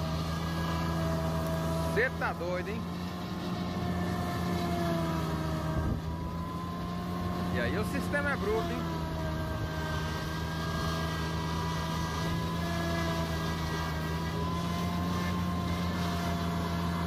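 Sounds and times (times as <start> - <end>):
forage harvester droning: 0.0 - 17.0
high machine whine: 0.0 - 17.0
tractor engine: 0.0 - 17.0.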